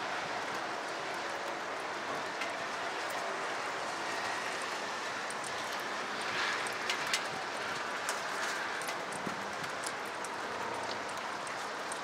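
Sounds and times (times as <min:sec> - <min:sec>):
close raindrops ticking: 0:00.0 - 0:12.0
distant city hum: 0:00.0 - 0:12.0
rain on trees and grass: 0:00.0 - 0:12.0.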